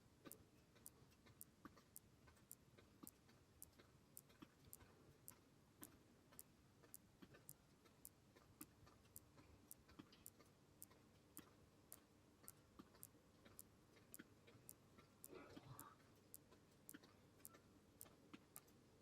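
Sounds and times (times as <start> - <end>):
faint sharp ticks: 0.0 - 18.9.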